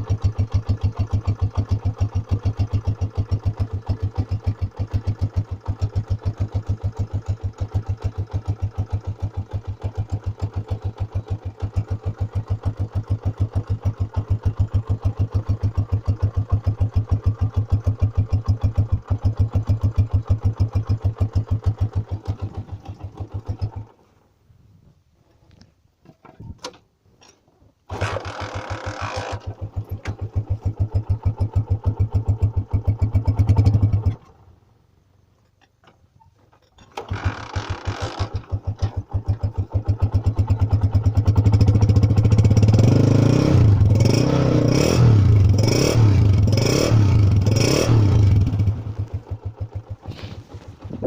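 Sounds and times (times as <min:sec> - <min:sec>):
motorcycle engine revving: 0:00.0 - 0:23.9, 0:27.9 - 0:34.4, 0:37.0 - 0:51.0
motorcycle engine idling: 0:00.0 - 0:24.0, 0:27.9 - 0:34.5, 0:37.0 - 0:51.0.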